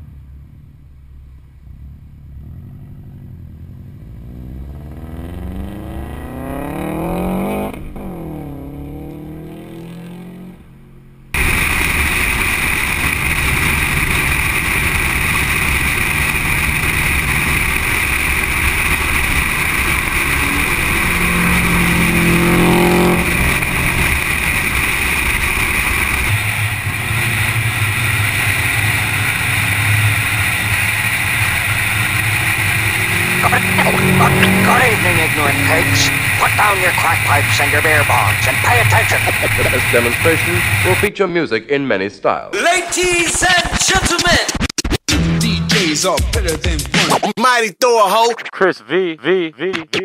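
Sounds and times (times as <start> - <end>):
car engine running: 0.0 - 41.1.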